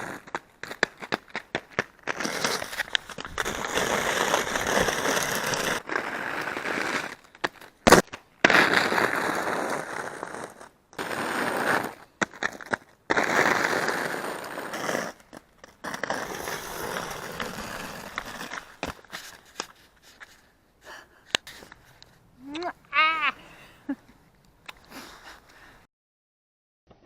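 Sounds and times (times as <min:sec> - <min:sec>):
skate wheels rolling on rock: 0:00.0 - 0:25.7.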